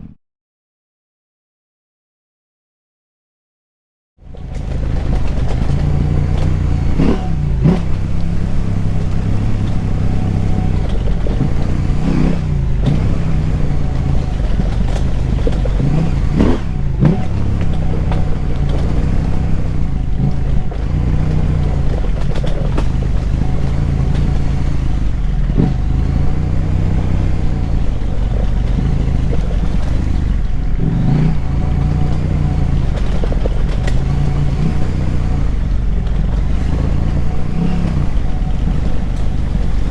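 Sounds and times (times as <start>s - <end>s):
motorcycle engine revving: 4.2s - 39.9s.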